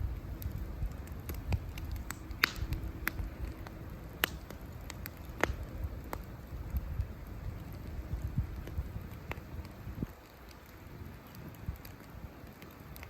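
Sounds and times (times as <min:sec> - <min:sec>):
campfire crackling and popping: 0:00.0 - 0:13.0
low steady rumble: 0:00.0 - 0:13.0.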